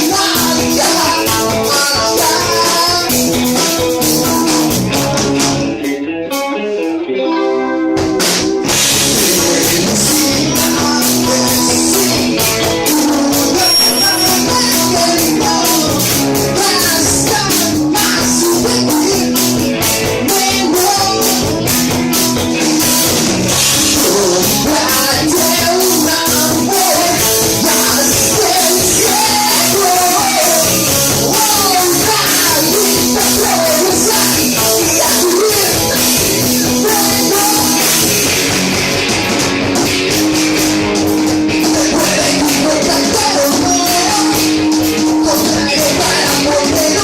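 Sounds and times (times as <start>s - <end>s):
person singing: 0.0s - 38.5s, 41.5s - 47.0s
drum kit: 0.0s - 47.0s
electric guitar: 0.0s - 47.0s.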